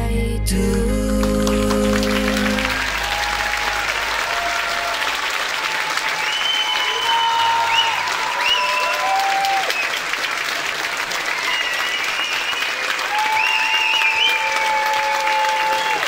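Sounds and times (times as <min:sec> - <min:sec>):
audience applauding: 0:01.2 - 0:16.0
high cheers: 0:01.9 - 0:16.0.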